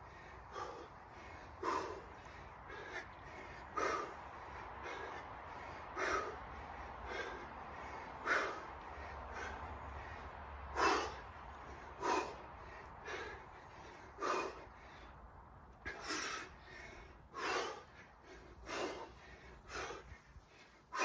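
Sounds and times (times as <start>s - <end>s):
man breathing forcefully: 0.0s - 21.0s.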